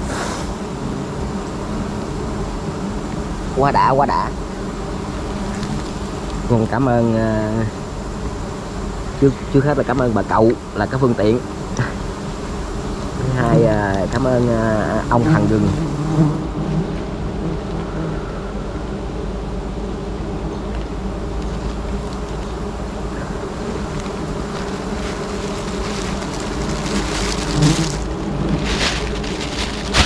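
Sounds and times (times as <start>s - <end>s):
crackling rustle: 0.0s - 18.3s, 20.0s - 30.0s
bees buzzing: 0.0s - 30.0s.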